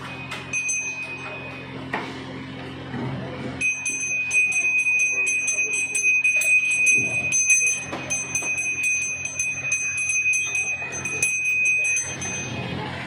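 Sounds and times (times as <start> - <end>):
hand bell ringing rapidly: 0.0 - 1.8, 3.6 - 12.9.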